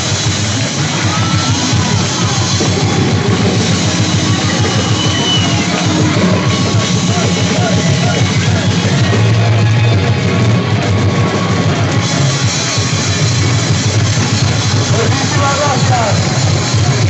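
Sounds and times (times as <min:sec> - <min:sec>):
live heavy metal band: 0:00.0 - 0:17.0.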